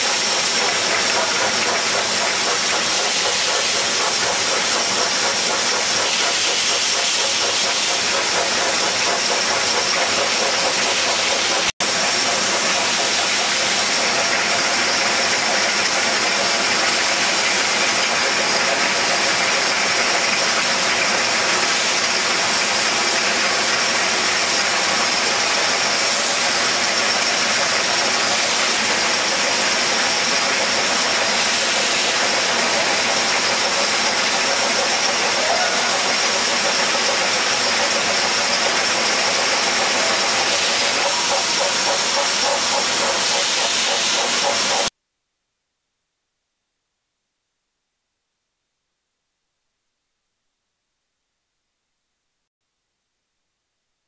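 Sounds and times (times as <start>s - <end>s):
bottling machine hiss: 0.0s - 44.9s
high machine whine: 0.0s - 44.9s.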